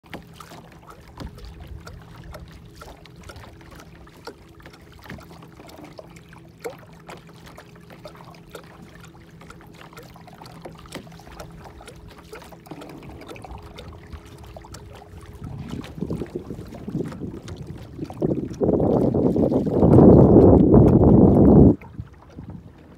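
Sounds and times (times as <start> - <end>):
water splashing against hull: 0.0 - 22.9.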